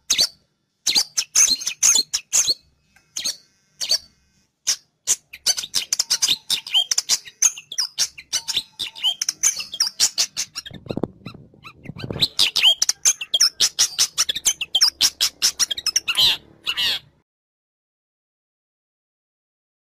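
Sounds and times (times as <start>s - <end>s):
bird chirping and scolding: 0.0s - 17.2s
lower harsh bird calls: 0.0s - 17.2s.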